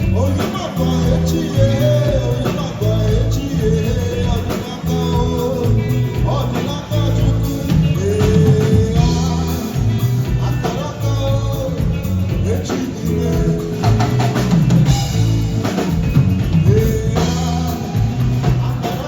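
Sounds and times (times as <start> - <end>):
lead vocal singing: 0.0 - 19.0
live band playing: 0.0 - 19.0.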